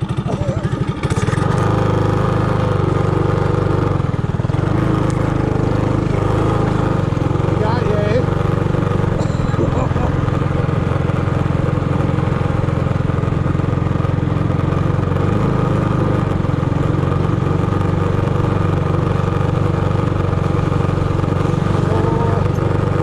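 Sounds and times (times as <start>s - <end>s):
small engine running steadily: 0.0s - 23.0s.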